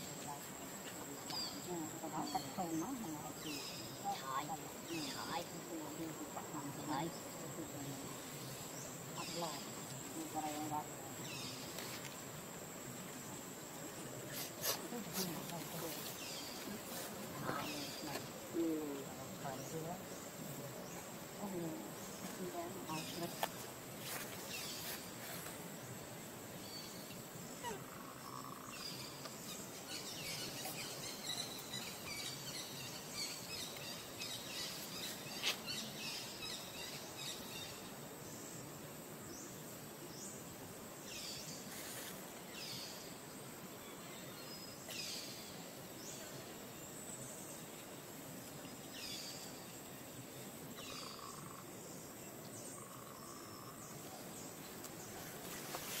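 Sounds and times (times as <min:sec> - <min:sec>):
steady forest hiss: 0:00.0 - 0:56.0.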